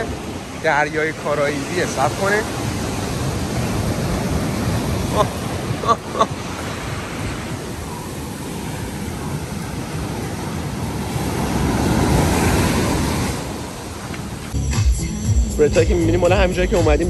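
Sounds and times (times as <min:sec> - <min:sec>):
ocean surf washing onto beach: 0:00.0 - 0:14.6
wind buffeting microphone: 0:00.0 - 0:14.6.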